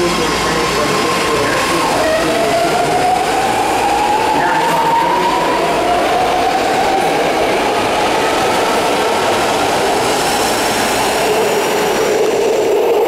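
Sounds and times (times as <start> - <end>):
train wheels rushing on rail: 0.0 - 13.0.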